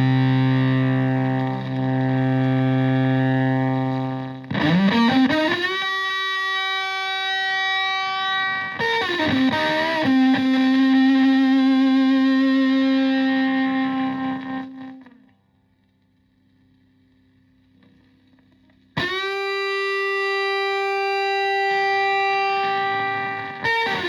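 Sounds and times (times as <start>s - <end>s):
fuzzed electric guitar notes: 0.0s - 15.4s, 19.0s - 24.0s.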